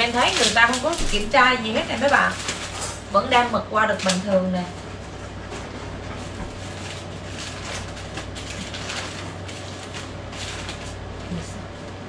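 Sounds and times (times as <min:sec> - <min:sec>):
newspaper rustling and crinkling: 0:00.0 - 0:12.0
steady low hum: 0:00.0 - 0:12.0.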